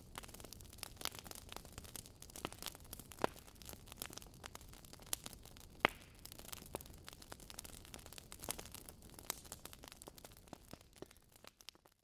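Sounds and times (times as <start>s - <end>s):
crackle and static clicks: 0.0s - 12.0s.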